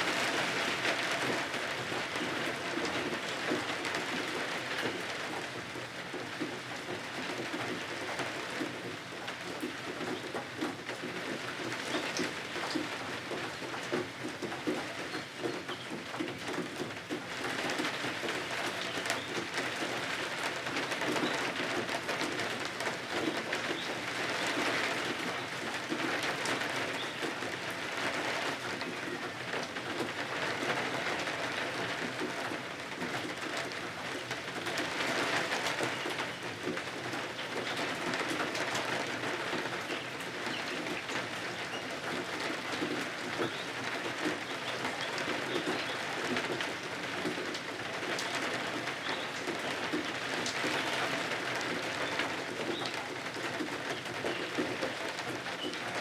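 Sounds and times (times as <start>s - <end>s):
rain against windows: 0.0s - 56.0s.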